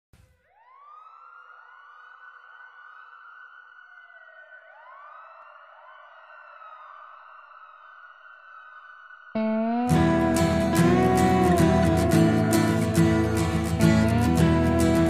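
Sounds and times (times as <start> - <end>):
electronic rising siren sweeps: 0.5 - 15.0.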